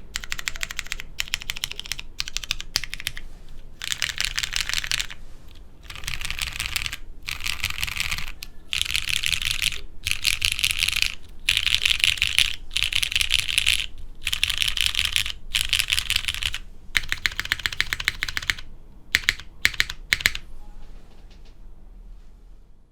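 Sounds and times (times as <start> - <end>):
mechanical keyboard typing: 0.0 - 20.4.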